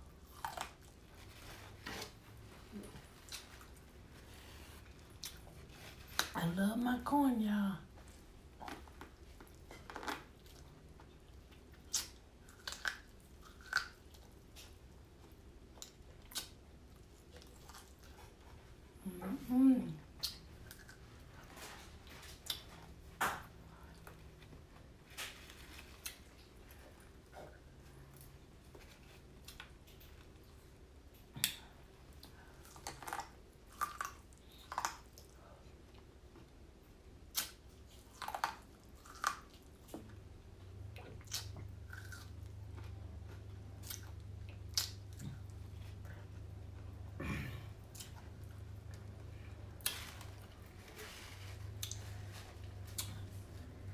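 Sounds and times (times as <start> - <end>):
person chewing corn: 0.0 - 6.4, 8.0 - 19.0, 20.1 - 23.0, 23.7 - 36.6, 37.2 - 53.9.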